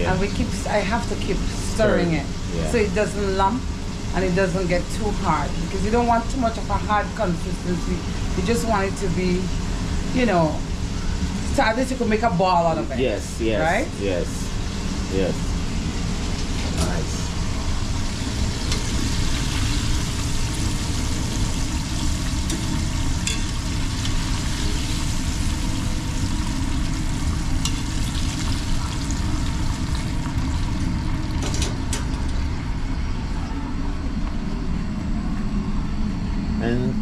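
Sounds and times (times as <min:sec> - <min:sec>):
kitchen ventilation hum: 0:00.0 - 0:37.0.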